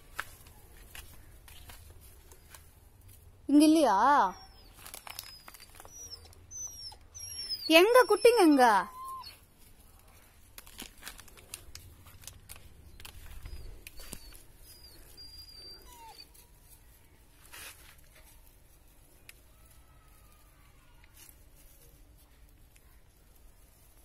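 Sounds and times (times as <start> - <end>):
rustling in dry leaves: 0.0 - 6.4, 7.8 - 24.0.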